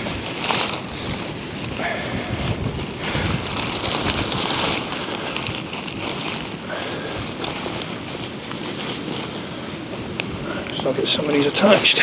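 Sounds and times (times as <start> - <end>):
wind buffeting microphone: 0.0 - 11.8
tent fabric rustling: 0.0 - 12.0.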